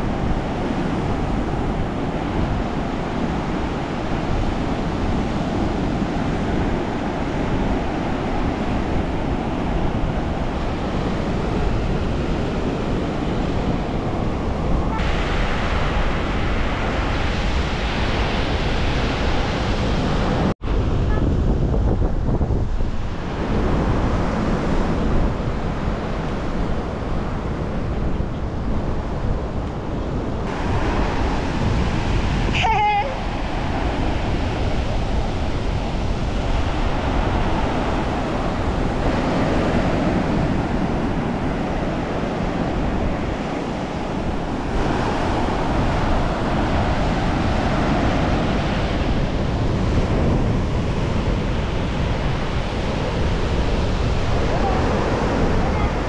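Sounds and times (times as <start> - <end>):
waves breaking on beach: 0.0 - 56.0
wind rumbling on microphone: 0.0 - 56.0.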